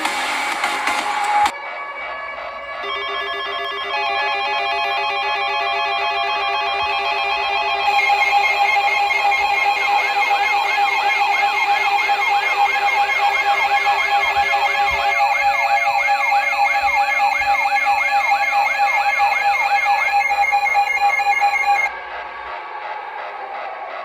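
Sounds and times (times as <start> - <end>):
steady alarm tones: 0.0 - 24.0
electronic siren wailing: 1.1 - 24.0.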